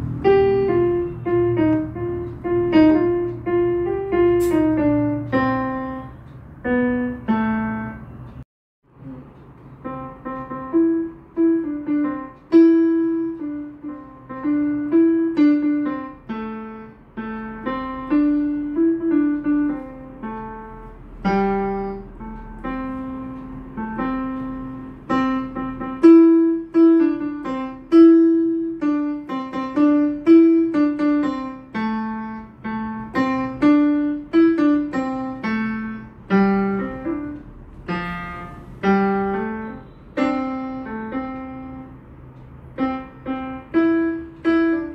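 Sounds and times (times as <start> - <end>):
keyboard playing piano melody: 0.0 - 8.5, 9.4 - 44.9.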